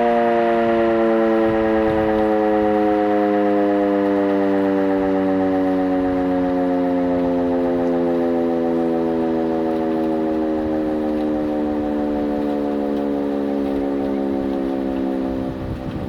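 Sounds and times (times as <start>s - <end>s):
fire siren winding down: 0.0s - 16.0s
wind rumbling on microphone: 0.0s - 16.0s.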